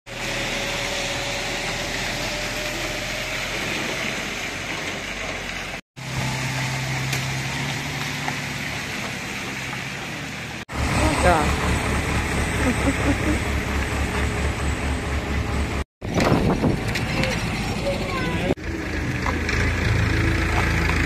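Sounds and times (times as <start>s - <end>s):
car engines running: 0.1s - 21.0s
road noise: 0.1s - 21.0s.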